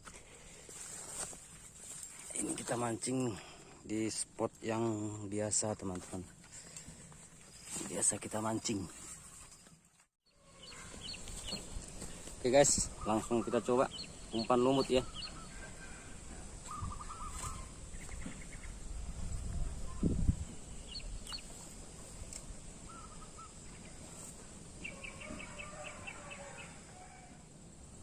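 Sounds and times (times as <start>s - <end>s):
birds chirping and trilling: 1.9s - 27.3s.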